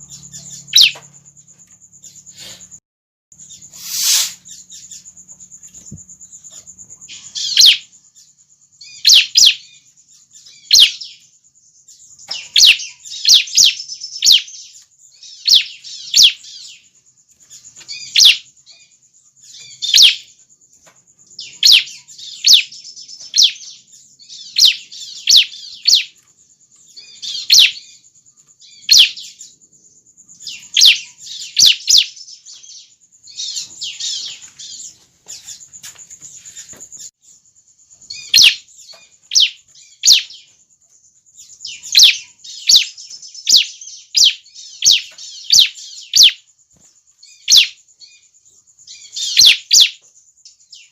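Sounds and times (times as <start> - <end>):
bird chirping high-pitched: 0.0 - 1.0, 3.4 - 29.6, 30.3 - 40.6, 41.3 - 46.5, 47.2 - 50.9.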